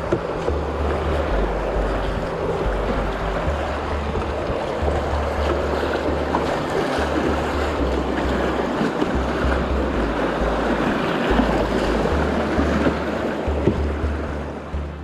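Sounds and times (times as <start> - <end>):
rushing whitewater: 0.0 - 15.0
water splashing against canoe hull: 0.0 - 15.0
wind rumbling on microphone: 0.0 - 15.0.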